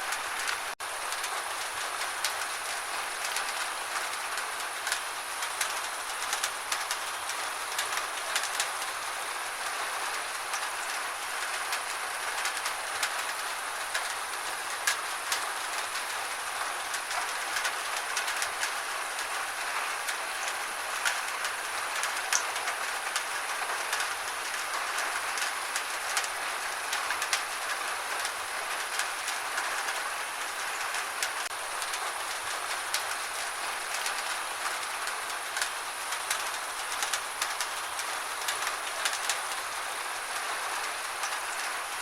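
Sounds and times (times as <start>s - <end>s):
gentle rain falling: 0.0s - 42.0s.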